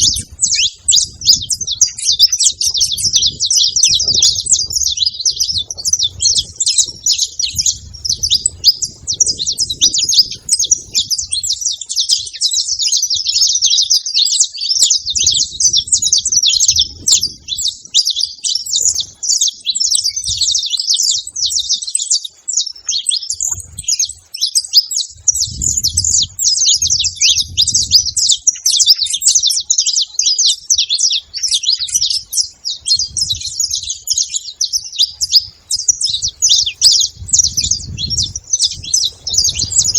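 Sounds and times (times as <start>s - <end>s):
finches chirping and twittering: 0.0s - 39.9s.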